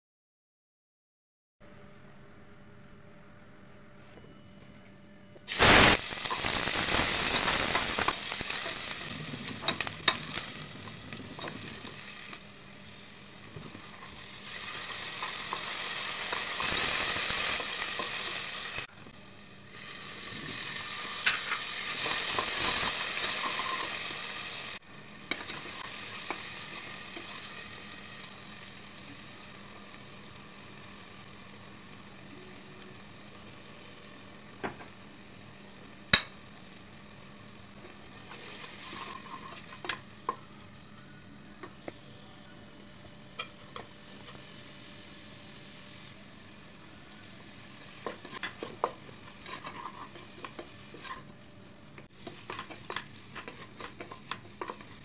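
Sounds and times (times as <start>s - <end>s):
onions sizzling in hot oil: 5.5s - 55.0s.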